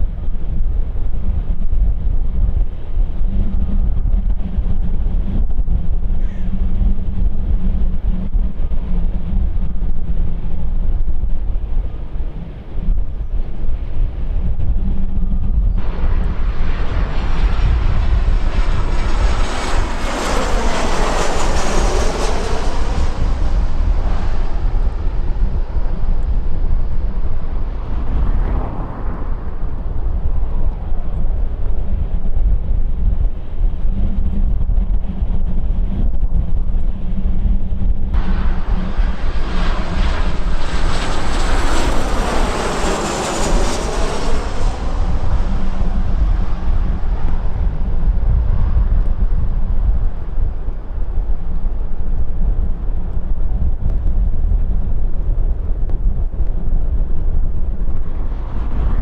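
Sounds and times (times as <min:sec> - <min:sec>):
wind rumble on microphone: 0:00.0 - 0:59.0
jet engines passing: 0:02.6 - 0:33.9, 0:36.5 - 0:59.0.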